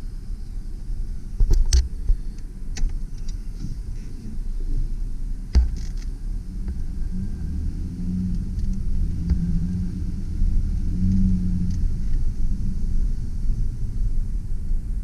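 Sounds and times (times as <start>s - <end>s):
pickup truck engine rumble: 0.0s - 15.0s.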